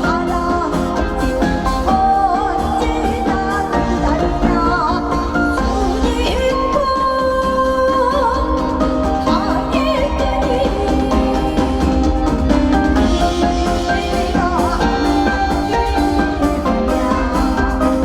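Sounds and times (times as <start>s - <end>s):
amplified band with strong bass: 0.0s - 18.0s
woman singing: 0.0s - 18.0s.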